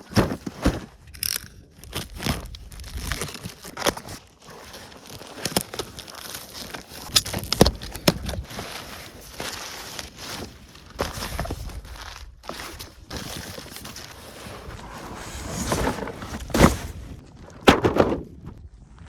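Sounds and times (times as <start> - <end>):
packaging crinkling and rustling: 0.0 - 17.2.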